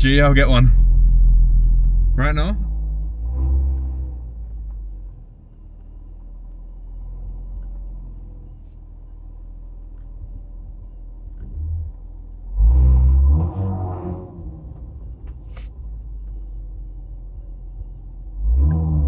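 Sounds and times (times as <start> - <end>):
car engine rumble and road noise: 0.0 - 19.0.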